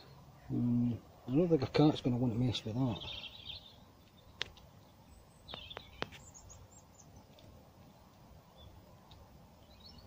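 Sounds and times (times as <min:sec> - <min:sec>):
faint bird chirps: 0:00.0 - 0:01.4, 0:02.5 - 0:10.0.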